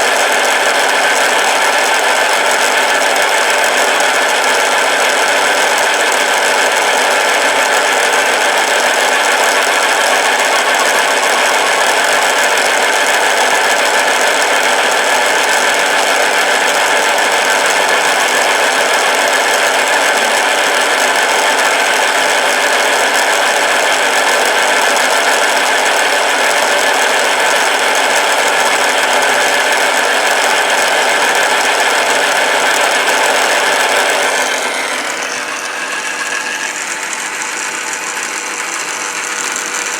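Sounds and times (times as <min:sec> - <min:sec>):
bench lathe motor humming: 0:00.0 - 0:39.9.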